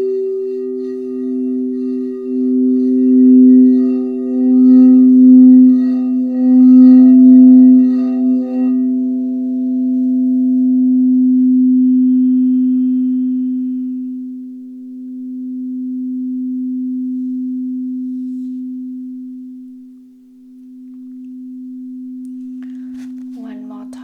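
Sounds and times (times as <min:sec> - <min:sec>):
singing bowls ringing: 0:00.0 - 0:24.0.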